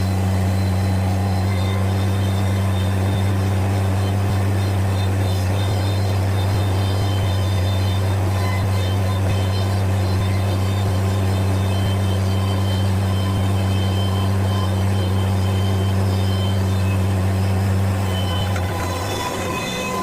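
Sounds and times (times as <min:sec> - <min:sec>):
loader engine droning: 0:00.0 - 0:20.0.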